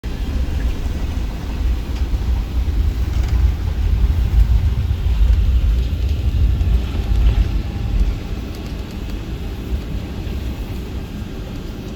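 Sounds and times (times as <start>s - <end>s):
jet cabin engine noise: 0.0s - 11.9s.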